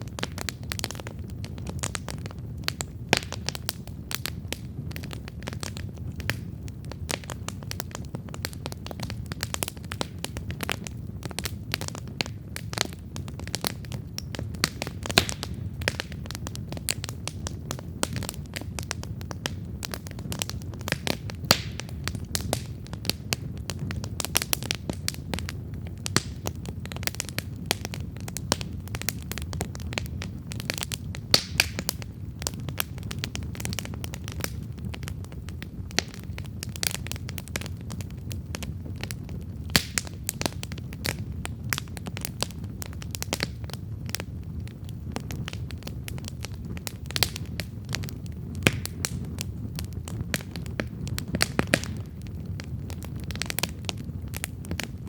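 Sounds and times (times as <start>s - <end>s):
campfire crackling and popping: 0.0s - 55.0s
low rumble of flames: 0.0s - 55.0s.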